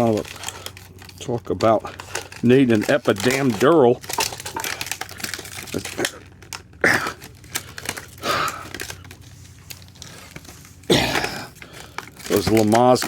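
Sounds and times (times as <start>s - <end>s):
plastic packaging crackling and tearing: 0.0s - 13.0s.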